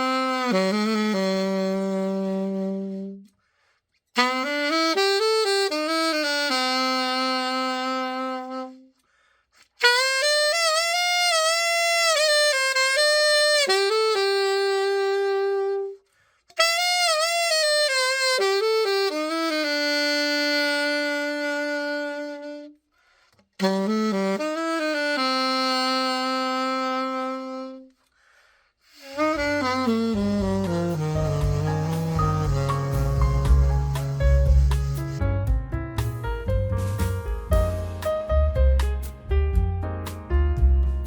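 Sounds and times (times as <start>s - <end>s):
solo alto saxophone: 0.0s - 40.2s.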